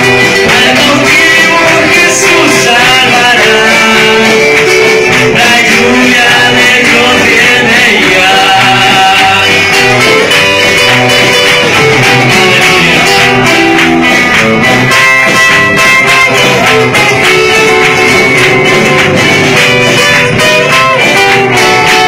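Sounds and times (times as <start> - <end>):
strummed guitar: 0.0 - 22.0
worship band playing: 0.0 - 22.0.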